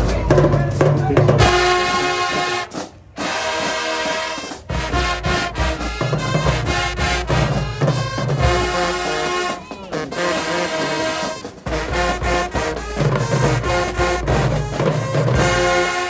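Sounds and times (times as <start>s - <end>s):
brass band playing held chords: 0.0s - 16.0s.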